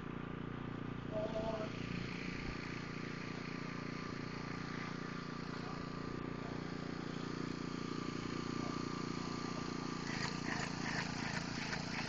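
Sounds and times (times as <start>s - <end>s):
motor humming: 0.6s - 12.0s.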